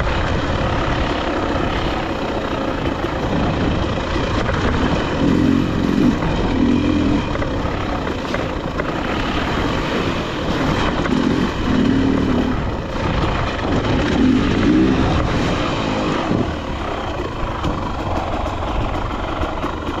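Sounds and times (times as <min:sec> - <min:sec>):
dirt bike engine revving: 0:00.0 - 0:20.0
loud steady rushing noise: 0:00.0 - 0:20.0.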